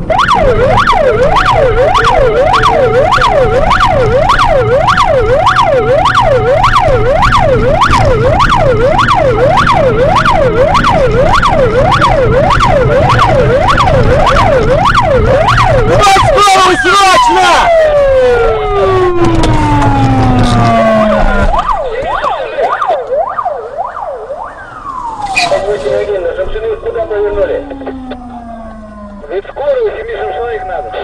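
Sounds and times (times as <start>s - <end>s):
siren yelping: 0.0s - 31.0s.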